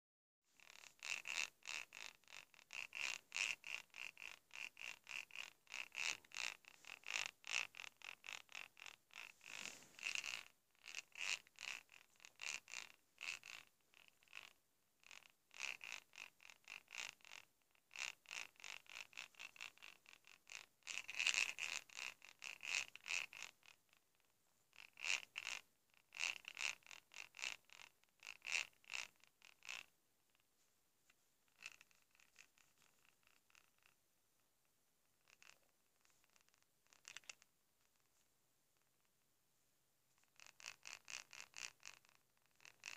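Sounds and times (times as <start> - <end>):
purr box purring in rattly bursts: 0.5 - 39.2, 40.1 - 42.9.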